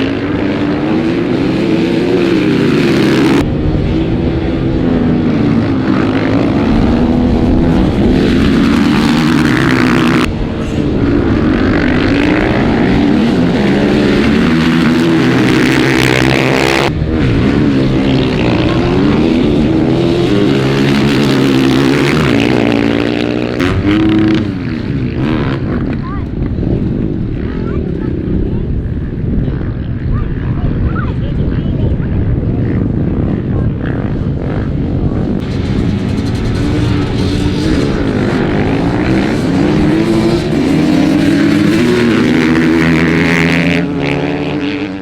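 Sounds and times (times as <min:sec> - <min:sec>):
dirt bike engine revving: 0:00.0 - 0:29.8, 0:32.3 - 0:45.0.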